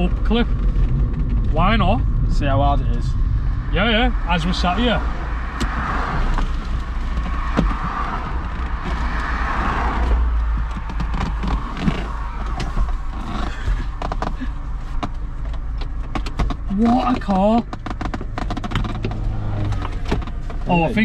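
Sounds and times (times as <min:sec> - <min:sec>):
fabric roof rustling and creaking: 0:00.0 - 0:02.4, 0:06.2 - 0:20.8
low engine rumble: 0:00.0 - 0:21.0.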